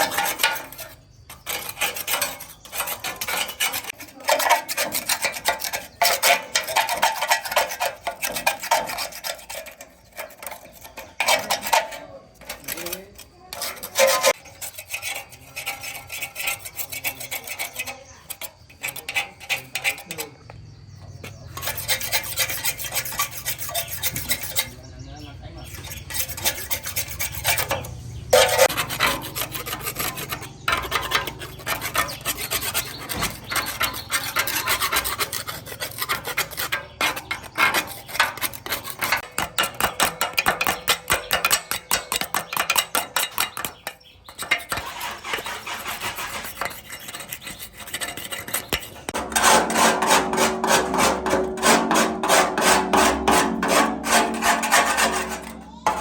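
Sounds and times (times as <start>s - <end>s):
hand tool scraping a workpiece: 0.0s - 56.0s.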